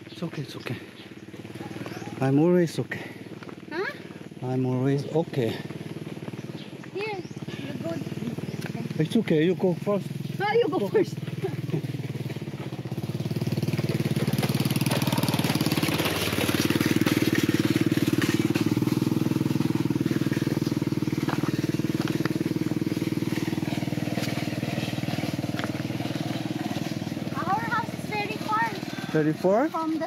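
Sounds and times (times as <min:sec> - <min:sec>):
small motorcycle engine running: 0:00.0 - 0:30.0.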